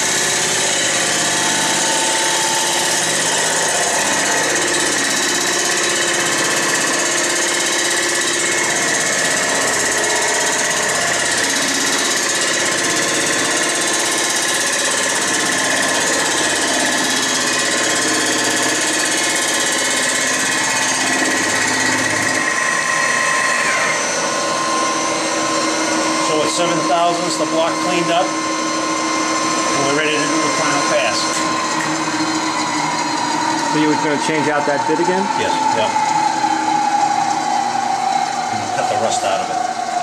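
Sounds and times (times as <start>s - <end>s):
milling machine cutting metal: 0.0s - 40.0s.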